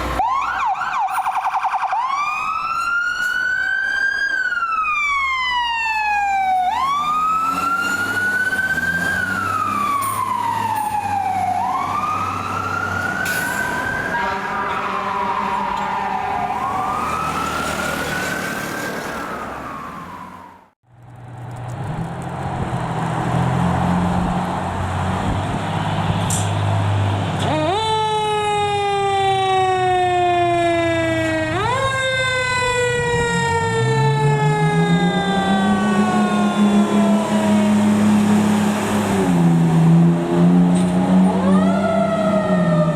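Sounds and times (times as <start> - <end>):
fire truck siren wailing: 0.0 - 20.8, 23.2 - 42.9.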